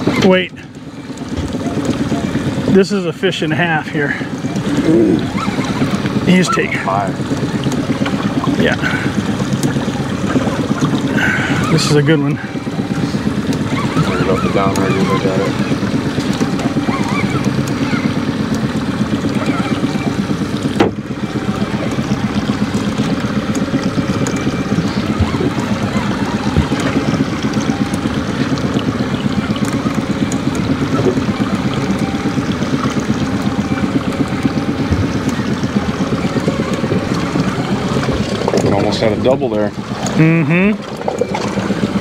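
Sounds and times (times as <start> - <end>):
outboard motor running: 0.0 - 42.0.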